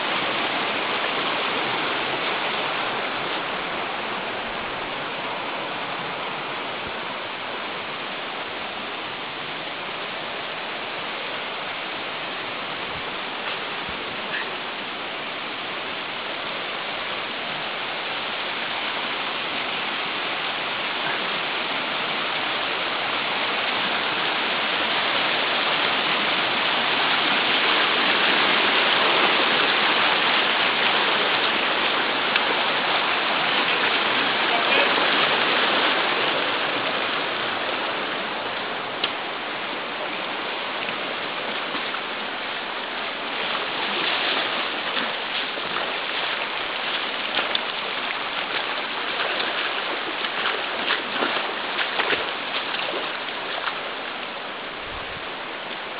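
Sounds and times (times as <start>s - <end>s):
rushing river water: 0.0s - 55.9s.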